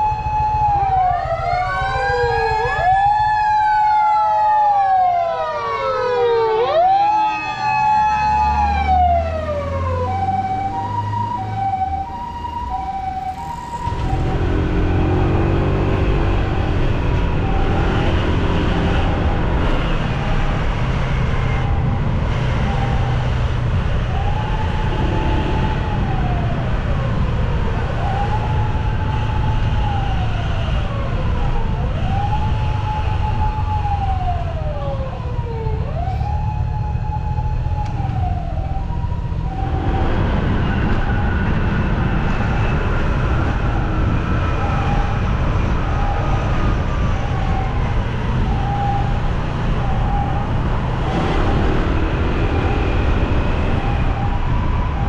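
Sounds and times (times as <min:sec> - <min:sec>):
mechanical motor siren wailing: 0:00.0 - 0:55.0
two-tone electronic siren: 0:00.0 - 0:55.0.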